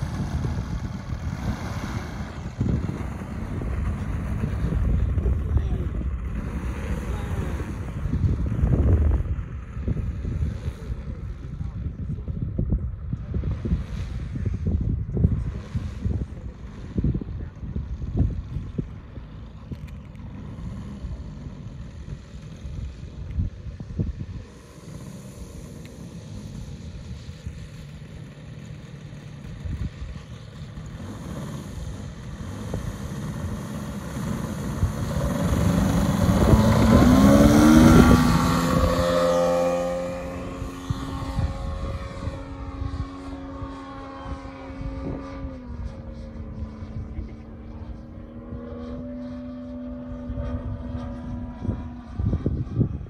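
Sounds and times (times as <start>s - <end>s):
model plane engine at high throttle: 0.0s - 53.0s.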